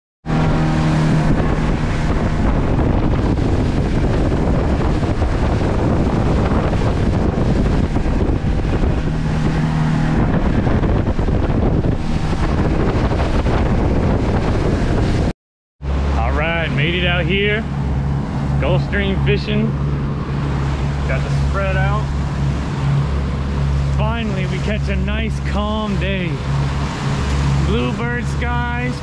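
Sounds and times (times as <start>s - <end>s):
boat hull slapping through water: 0.2s - 29.0s
low engine drone: 0.2s - 29.0s
wind buffeting microphone: 0.2s - 29.0s.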